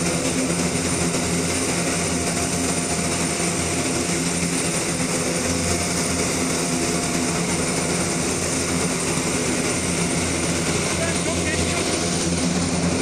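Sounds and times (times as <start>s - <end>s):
aircraft engines droning: 0.0s - 13.0s
high engine whine: 0.0s - 13.0s.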